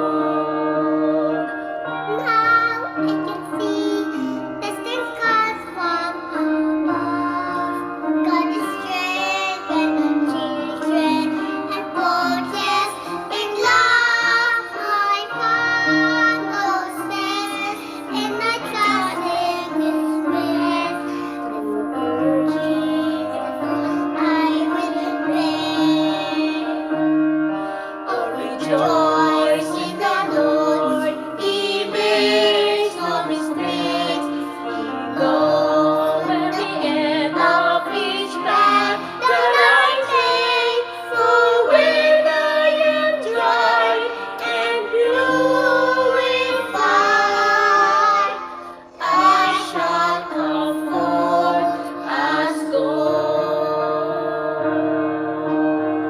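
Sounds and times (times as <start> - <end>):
people singing a worship song: 0.0 - 2.8, 3.6 - 27.0, 27.8 - 56.0
held instrumental accompaniment: 0.0 - 56.0.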